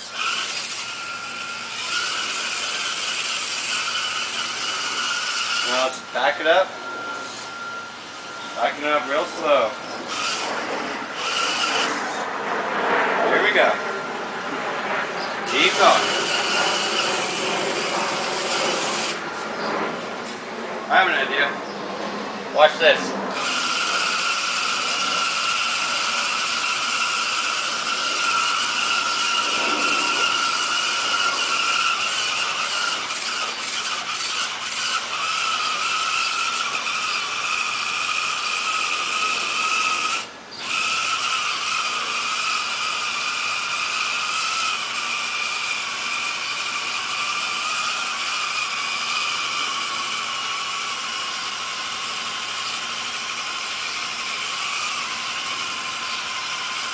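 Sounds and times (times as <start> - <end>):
toy truck motor whining: 0.0 - 12.3, 15.2 - 19.6, 22.6 - 56.9
wheels spinning in mud: 0.0 - 13.7, 15.2 - 20.1, 23.1 - 56.9.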